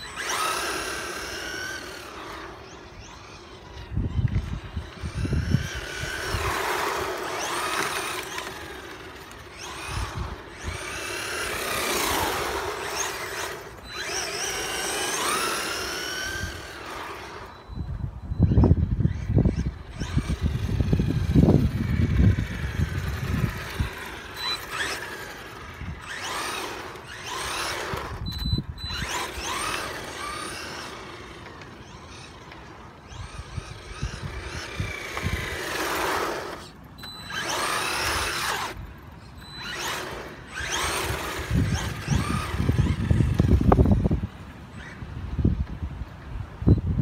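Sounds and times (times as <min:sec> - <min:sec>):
toy car electric motor whining: 0:00.0 - 0:45.3.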